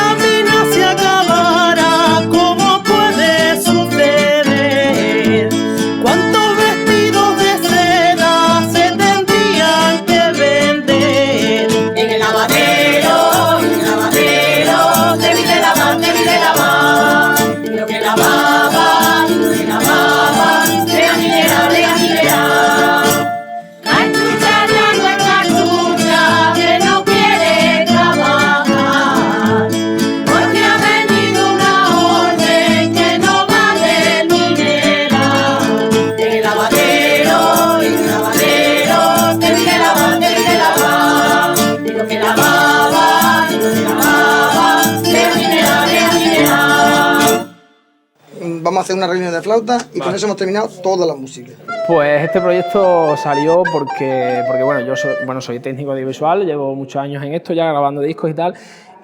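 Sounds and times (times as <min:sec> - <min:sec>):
group singing folk song: 0:00.0 - 0:47.6
guitar accompaniment: 0:00.0 - 0:47.6, 0:51.6 - 0:55.7.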